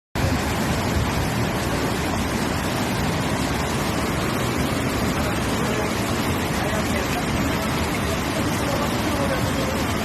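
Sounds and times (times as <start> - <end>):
floodwater rushing: 0.2 - 10.0.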